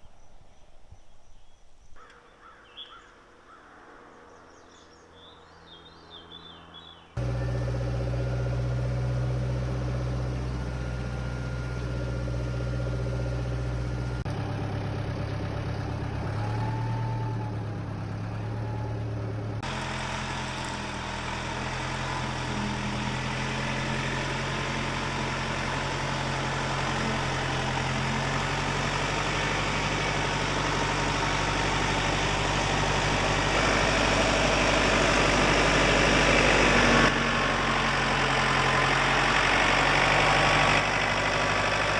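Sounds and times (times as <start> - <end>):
vehicle engine running: 7.2 - 41.9.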